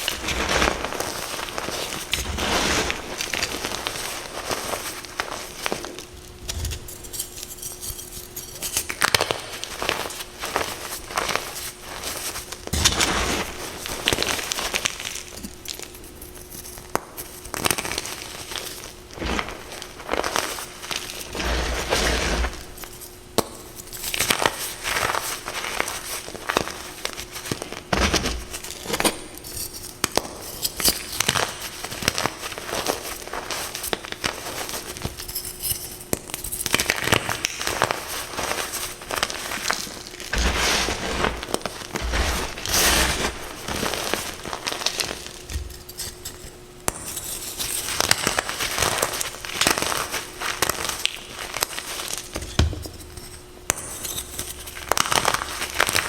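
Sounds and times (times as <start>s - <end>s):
chalk crunching and crackling: 0.0s - 29.0s, 29.6s - 52.3s.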